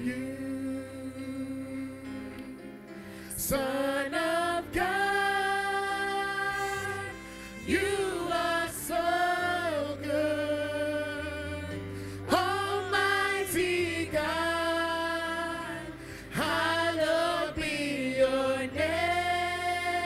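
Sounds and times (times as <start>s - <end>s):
people singing slow gospel song: 0.0s - 20.0s.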